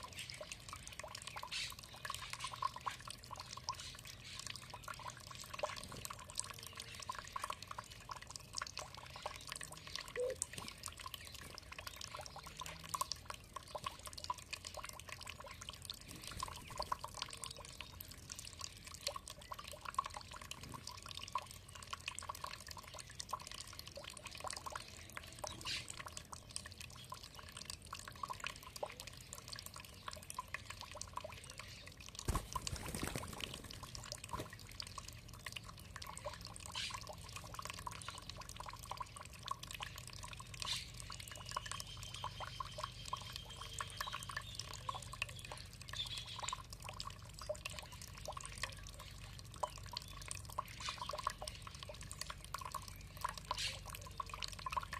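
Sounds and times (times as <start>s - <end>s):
water dripping and trickling: 0.0s - 54.9s.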